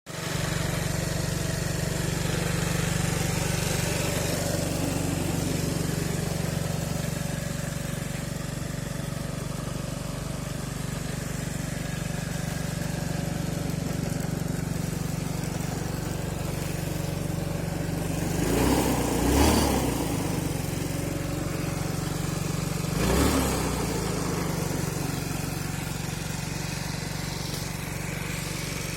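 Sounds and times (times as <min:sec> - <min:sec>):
motorcycle engine idling: 0:00.1 - 0:28.9.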